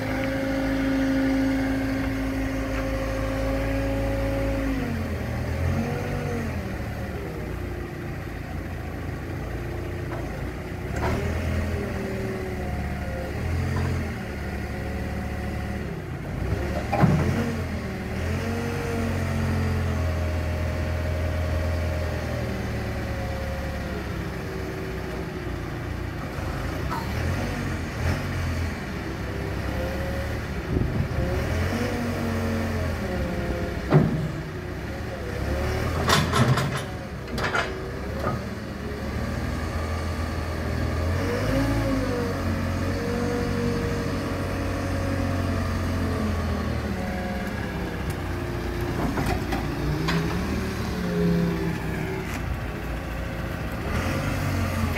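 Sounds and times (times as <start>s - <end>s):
diesel engine under hydraulic load: 0.0s - 54.9s.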